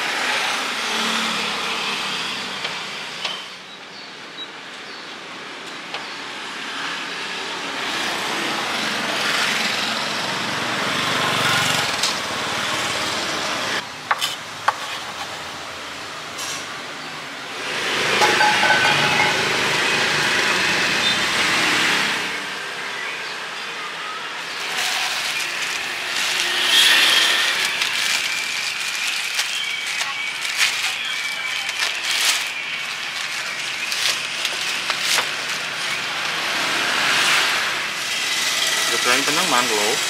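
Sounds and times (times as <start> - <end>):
traffic passing: 0.0 - 40.0.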